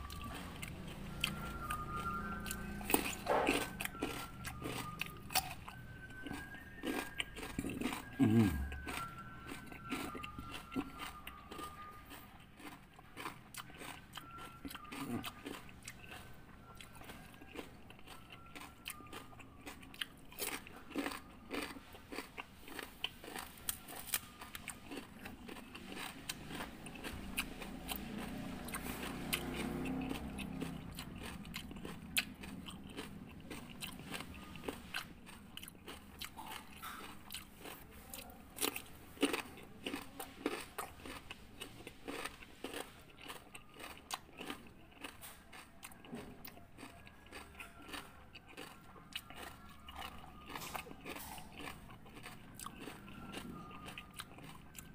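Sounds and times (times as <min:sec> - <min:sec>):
person crunching cucumber: 0:00.0 - 0:54.9.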